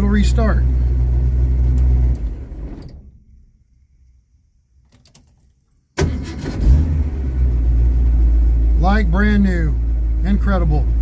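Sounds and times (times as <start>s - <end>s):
car engine starting and idling: 0.0s - 3.8s, 5.9s - 11.0s.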